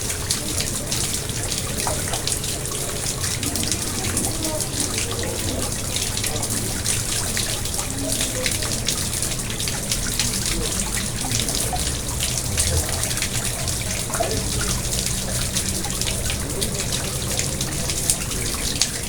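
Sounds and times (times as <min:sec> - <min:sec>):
water trickles and drips: 0:00.0 - 0:19.0.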